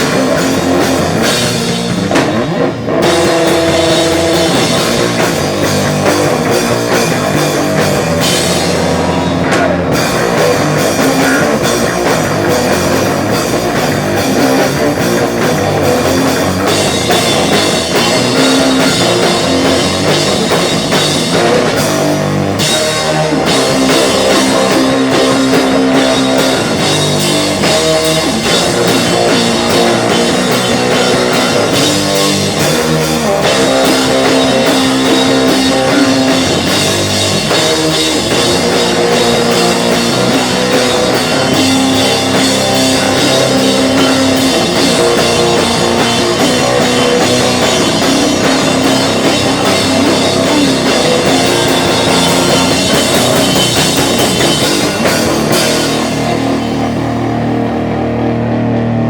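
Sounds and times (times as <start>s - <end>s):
drum kit: 0.0s - 58.3s
electric guitar chords: 0.0s - 59.0s.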